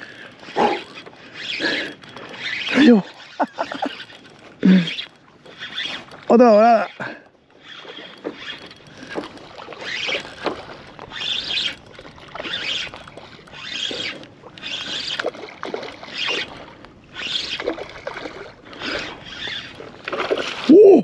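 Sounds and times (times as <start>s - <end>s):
water splashing around kayak: 0.0s - 21.0s.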